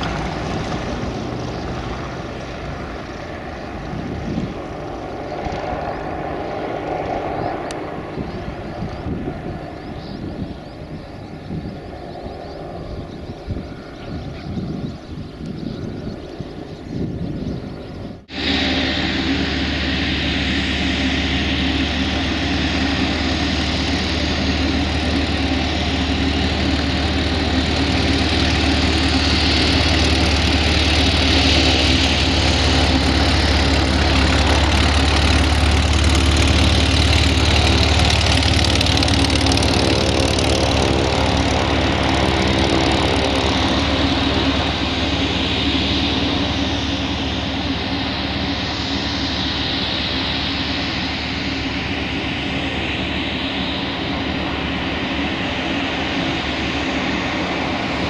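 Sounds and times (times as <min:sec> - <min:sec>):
piston aircraft engine and propeller: 0:00.0 - 0:58.0.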